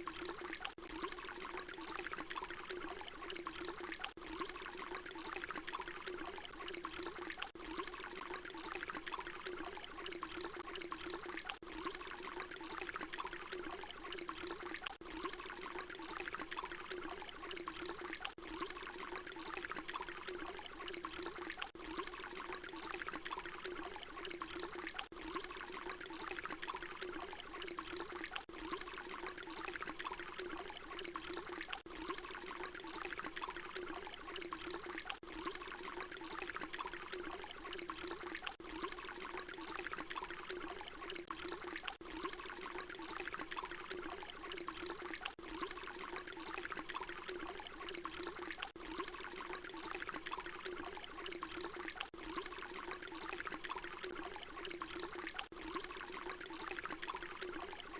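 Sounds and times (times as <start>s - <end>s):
water pouring: 0.0s - 57.9s.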